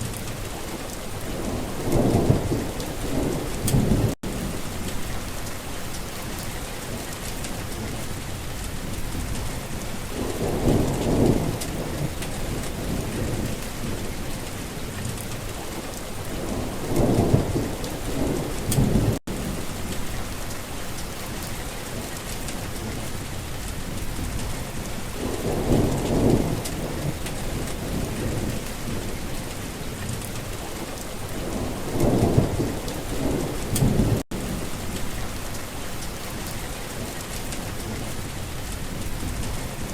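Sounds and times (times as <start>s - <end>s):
heavy rain hissing: 0.0s - 39.9s
thunder rolling: 1.1s - 8.0s, 8.8s - 15.1s, 16.2s - 23.1s, 23.8s - 38.1s.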